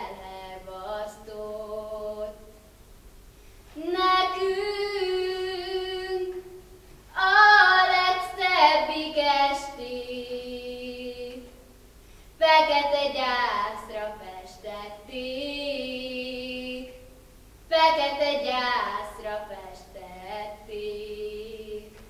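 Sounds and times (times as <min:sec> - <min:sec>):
girl singing unaccompanied: 0:00.0 - 0:02.7, 0:03.7 - 0:11.7, 0:12.4 - 0:22.0.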